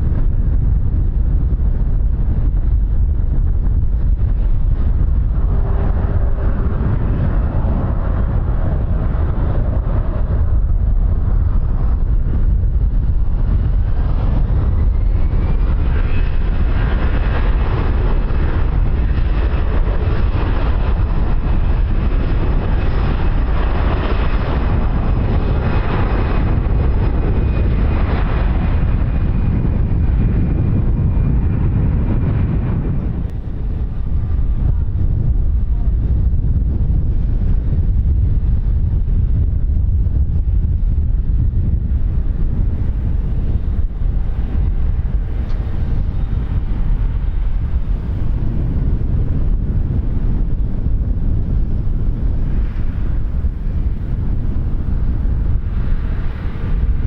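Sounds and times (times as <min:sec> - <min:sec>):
aircraft engine rumble and whine: 0:00.0 - 0:57.0
wind buffeting microphone: 0:00.0 - 0:57.0.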